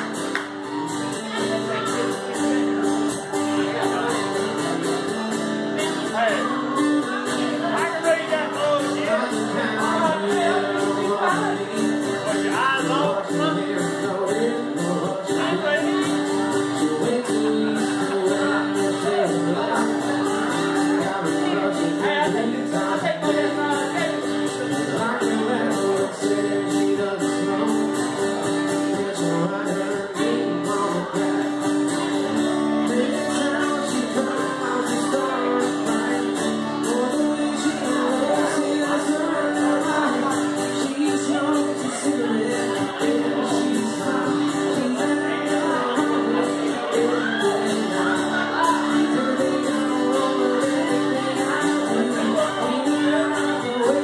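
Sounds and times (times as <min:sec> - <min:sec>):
acoustic guitars strumming: 0:00.0 - 0:54.0
man singing: 0:00.0 - 0:54.0.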